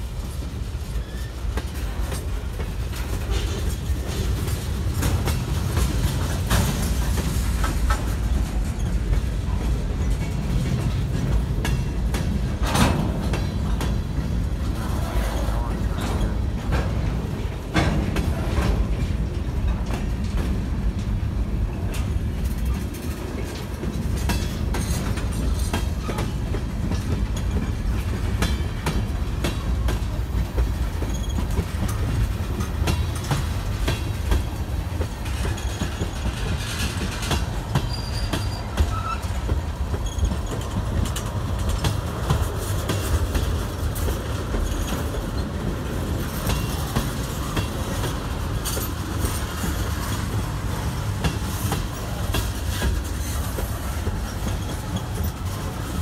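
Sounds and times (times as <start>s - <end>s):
steel wheels rumbling on rail: 0.0s - 56.0s
wheels clanking over rail joints: 0.0s - 56.0s.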